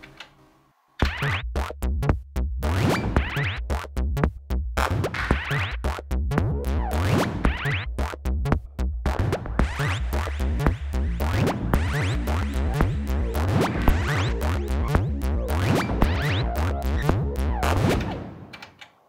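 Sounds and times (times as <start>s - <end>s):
deep pulsing synth bass: 1.0s - 18.2s
stuttering synth stabs: 1.0s - 18.3s.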